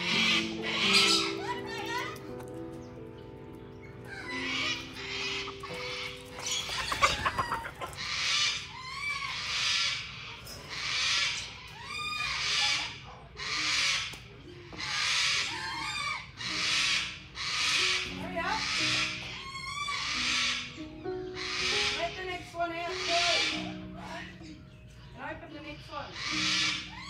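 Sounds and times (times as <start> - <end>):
poultry harsh calls: 0.0 - 3.0, 3.7 - 27.0.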